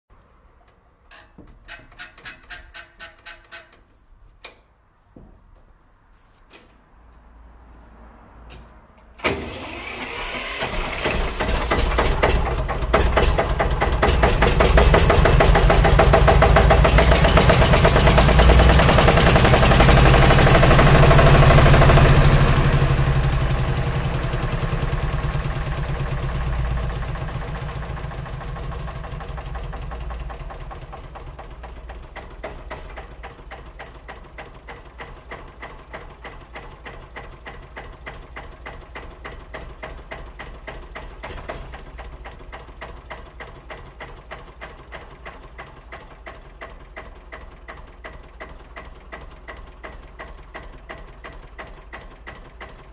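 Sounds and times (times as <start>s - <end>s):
tractor engine running: 9.2s - 52.9s.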